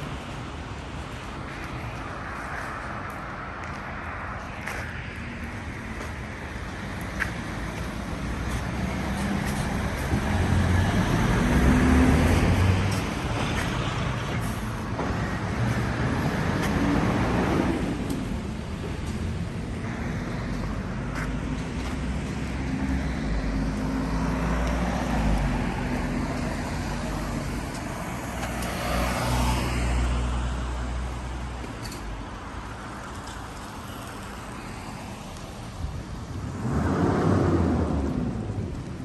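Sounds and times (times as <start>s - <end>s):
vehicle engines running: 0.0s - 39.0s.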